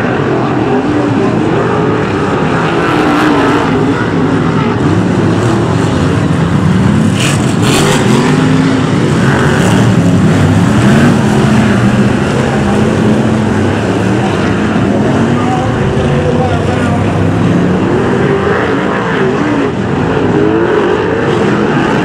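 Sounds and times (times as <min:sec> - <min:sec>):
stock car engines revving: 0:00.0 - 0:22.0.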